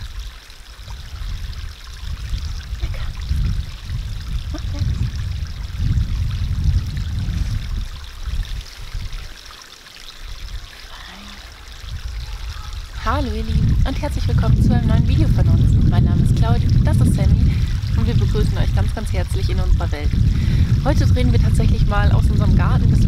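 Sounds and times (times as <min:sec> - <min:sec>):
wind buffeting microphone: 0:00.0 - 0:09.5, 0:10.2 - 0:23.0
stream trickling: 0:00.0 - 0:23.0.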